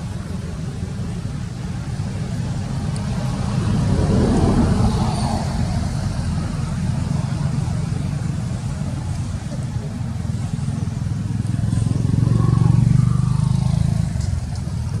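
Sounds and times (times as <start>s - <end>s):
steady low rumble: 0.0s - 15.0s
motor vehicle passing: 2.7s - 15.0s.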